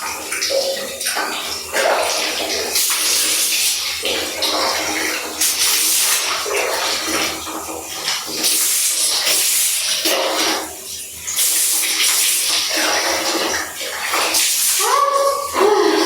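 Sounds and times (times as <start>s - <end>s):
water splashing and gushing: 0.0s - 16.0s.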